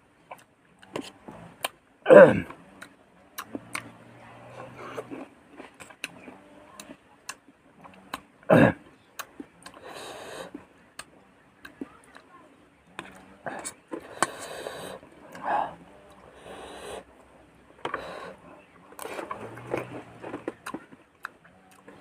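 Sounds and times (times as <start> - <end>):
person chewing fruit: 0.3 - 1.8, 2.4 - 12.3, 12.9 - 22.0.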